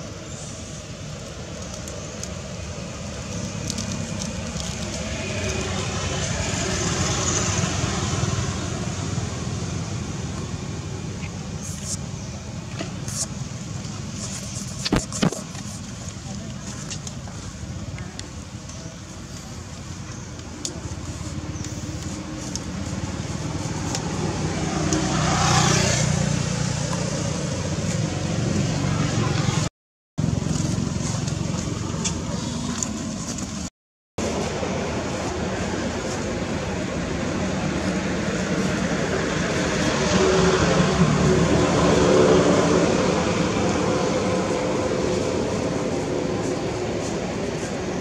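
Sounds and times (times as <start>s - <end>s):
passing vehicle rumble: 0.2s - 12.8s, 20.6s - 32.8s, 34.2s - 48.0s.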